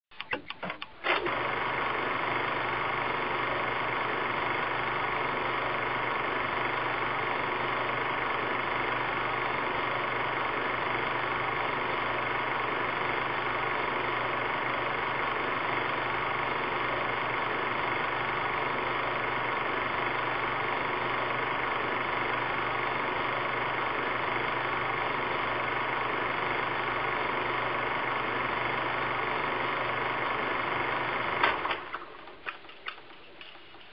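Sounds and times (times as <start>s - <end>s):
film projector whirring: 0.1s - 33.9s.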